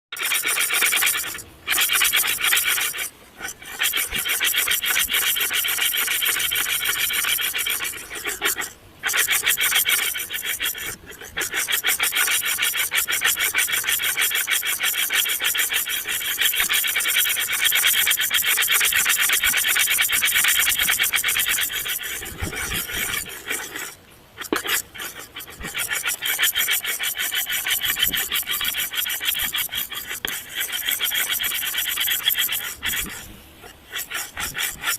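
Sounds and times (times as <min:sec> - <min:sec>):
harsh rasping scratching: 0:00.1 - 0:34.9.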